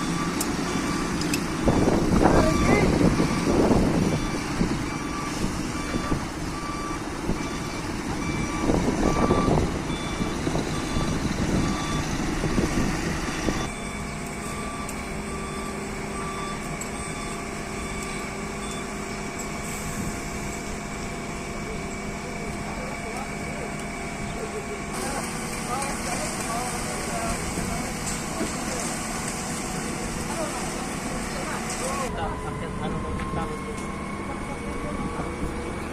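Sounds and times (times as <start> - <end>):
truck engine rumble: 0.0 - 35.9
truck reversing alarm beeping: 0.0 - 35.9.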